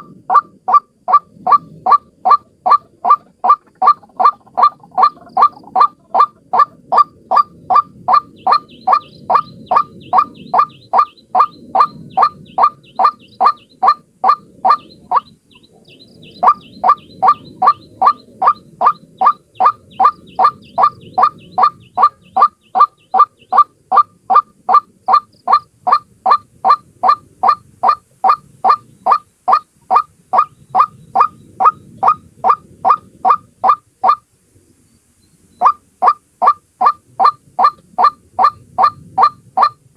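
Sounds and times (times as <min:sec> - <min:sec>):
waterhen calling: 0:00.0 - 0:34.2, 0:35.6 - 0:39.9.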